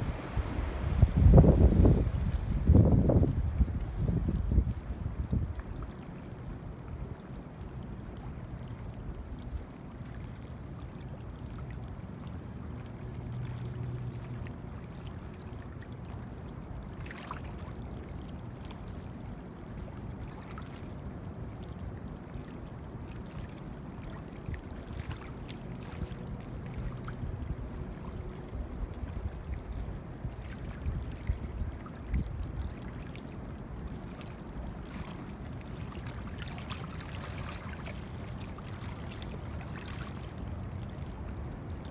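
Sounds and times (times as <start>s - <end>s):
water ripples lapping: 0.0s - 41.9s
wind rumble on microphone: 0.0s - 41.9s.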